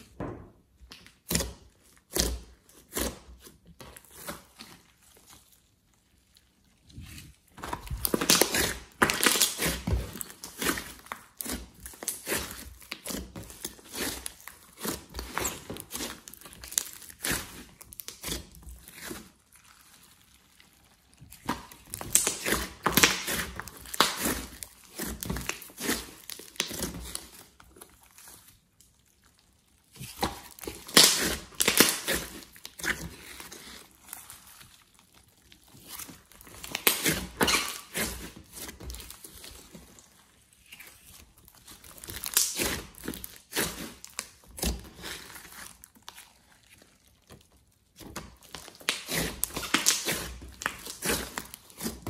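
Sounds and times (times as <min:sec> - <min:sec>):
slime being kneaded crackling: 0:00.7 - 0:52.0.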